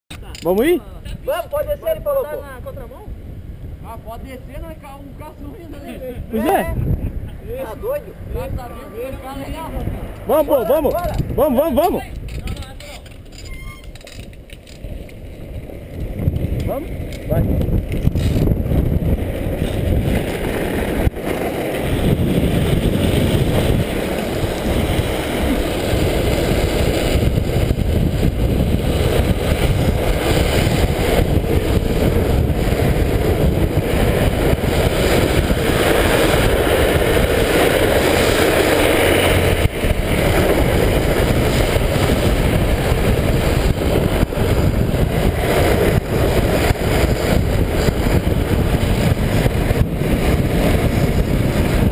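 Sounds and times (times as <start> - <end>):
wind rushing on microphone: 0.1 - 51.9
trike rolling on asphalt: 0.4 - 51.9.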